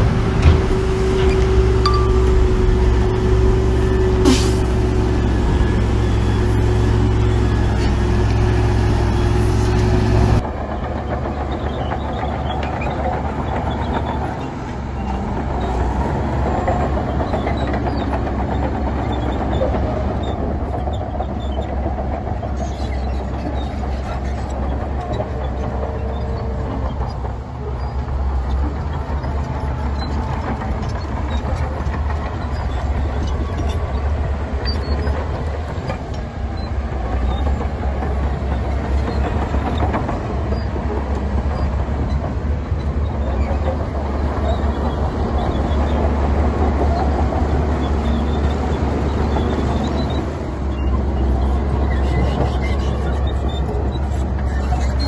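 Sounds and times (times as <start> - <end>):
different engine noise: 0.0 - 55.0
heavy diesel machinery running: 0.0 - 55.0.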